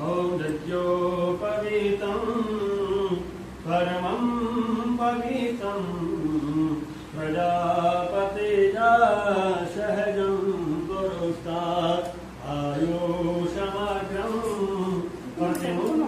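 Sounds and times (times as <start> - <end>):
man chanting in sing-song voice: 0.0 - 16.0.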